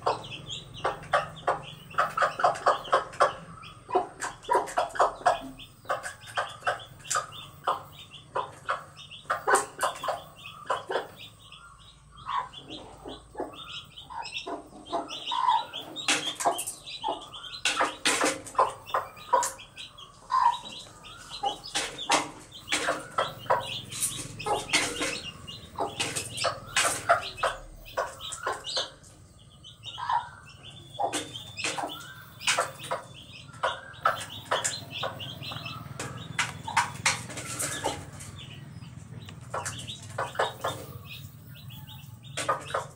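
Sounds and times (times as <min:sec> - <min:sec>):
chickens clucking: 0:00.0 - 0:42.9
chicks peeping: 0:00.0 - 0:42.9.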